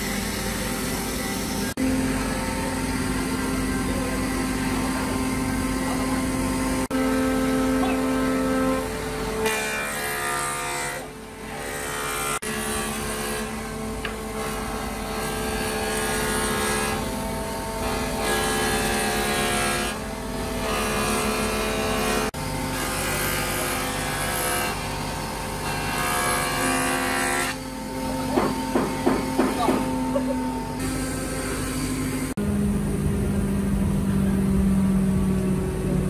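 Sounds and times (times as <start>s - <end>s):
wood planer shaving wood: 0.0s - 32.5s.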